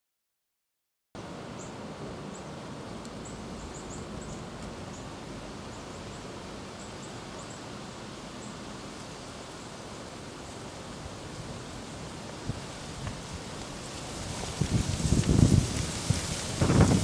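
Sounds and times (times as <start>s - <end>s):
steady background hiss: 1.2s - 17.0s.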